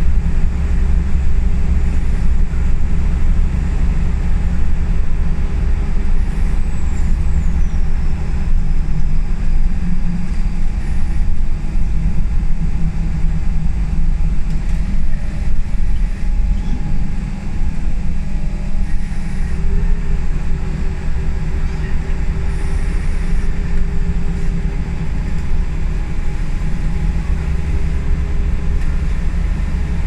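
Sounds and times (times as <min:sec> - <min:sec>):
bus diesel engine rumble: 0:00.0 - 0:30.0
road noise: 0:00.0 - 0:30.0.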